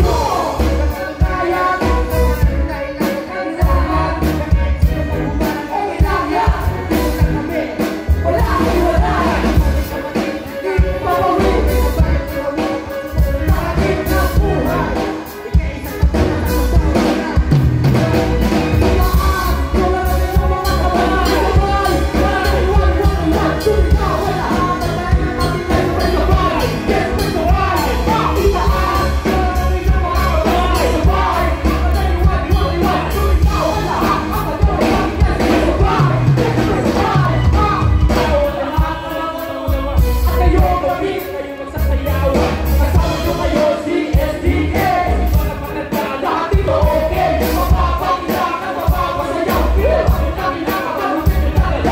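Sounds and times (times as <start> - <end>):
live band music: 0.0 - 51.9
people singing into microphones: 0.0 - 51.9.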